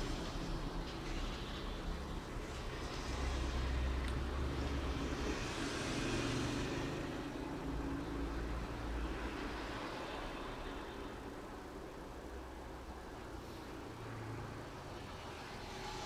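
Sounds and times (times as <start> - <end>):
steady background rumble and hiss: 0.0 - 16.0.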